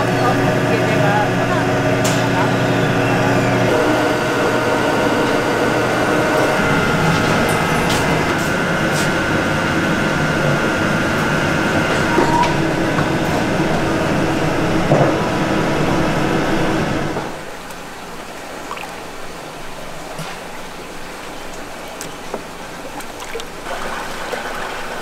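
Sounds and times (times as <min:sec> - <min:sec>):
factory machinery hum and whine: 0:00.0 - 0:25.0.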